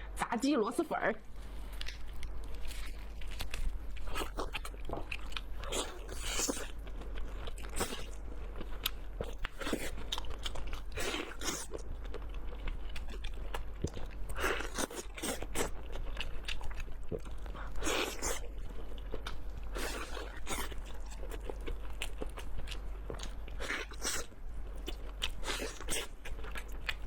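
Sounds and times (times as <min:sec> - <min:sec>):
crunching and chewing: 0:01.5 - 0:27.0.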